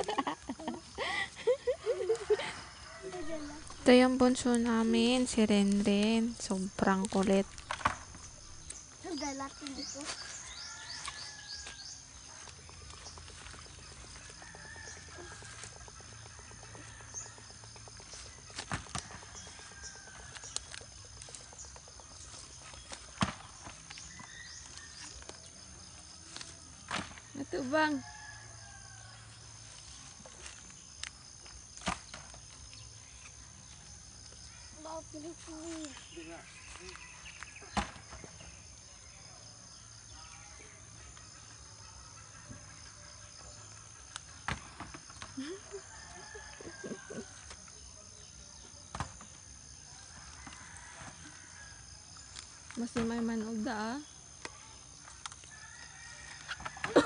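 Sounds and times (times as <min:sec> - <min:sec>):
high insect trill: 0:00.0 - 0:57.0.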